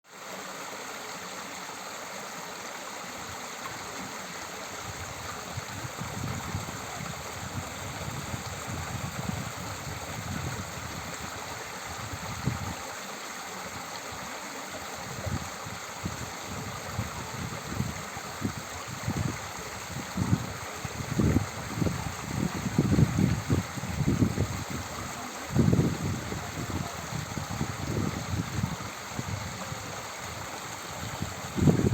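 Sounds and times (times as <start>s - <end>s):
stream running: 0.0s - 31.9s
low gurgling water surges: 0.1s - 31.9s.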